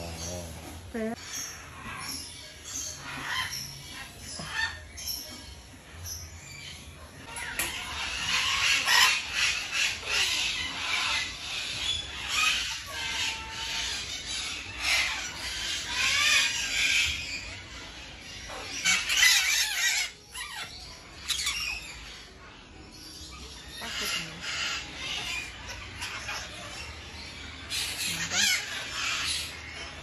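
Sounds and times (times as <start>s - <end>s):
parrots squawking and screeching: 0.0s - 30.0s.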